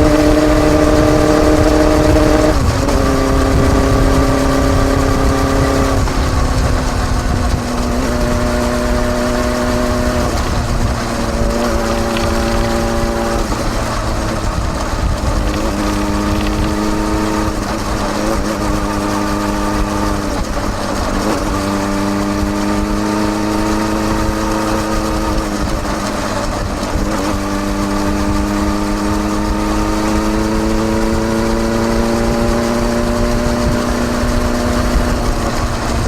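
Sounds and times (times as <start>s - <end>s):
motorcycle exhaust note: 0.0s - 36.0s.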